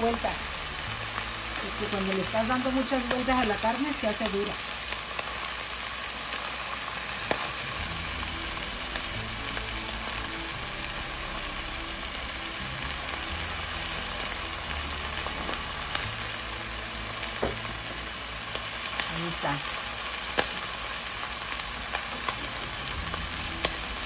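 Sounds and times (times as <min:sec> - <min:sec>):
steak sizzling in a frying pan: 0:00.0 - 0:24.0.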